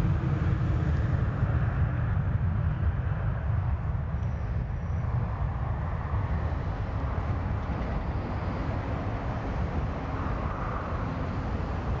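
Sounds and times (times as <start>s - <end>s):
jet engines rumbling at takeoff: 0.0s - 12.0s.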